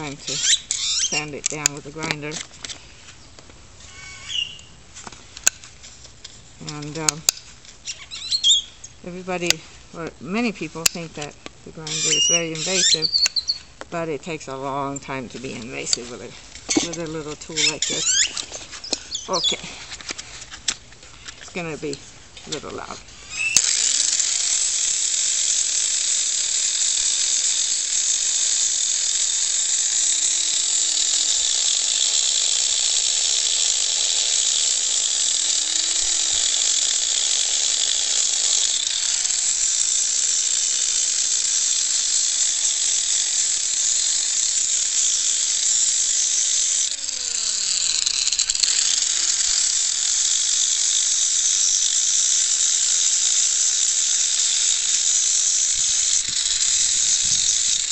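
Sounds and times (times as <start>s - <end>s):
grinder sanding hoof: 0.0s - 3.2s, 3.8s - 57.9s.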